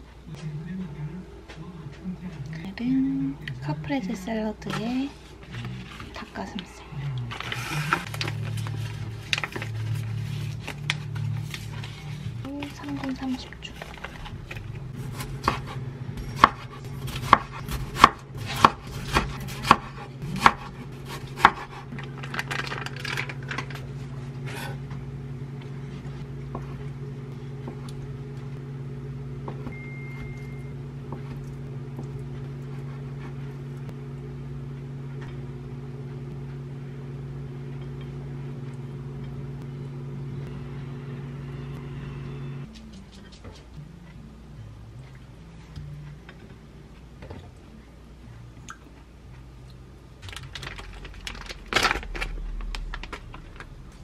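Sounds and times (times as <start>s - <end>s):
microwave humming: 0.0s - 54.0s.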